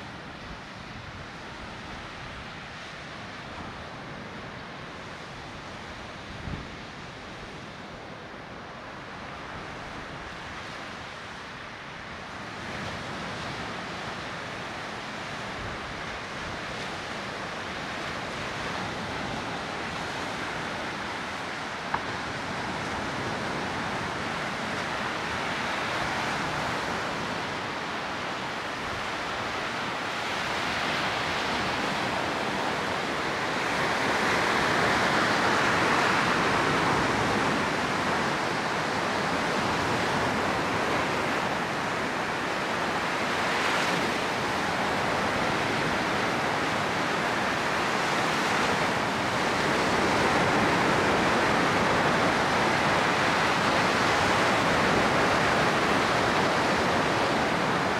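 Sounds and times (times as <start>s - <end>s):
waves breaking on sandy beach: 0.0s - 57.9s.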